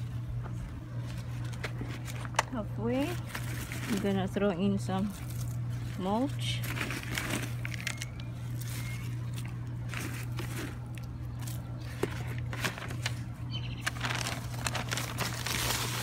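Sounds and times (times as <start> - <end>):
steady low hum: 0.0 - 16.0
bark mulch rustling and crackling: 1.3 - 16.0.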